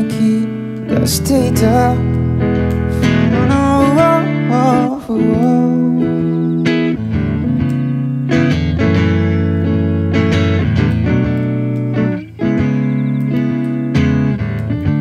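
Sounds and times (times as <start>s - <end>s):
guitar playing slow chords: 0.0s - 15.0s.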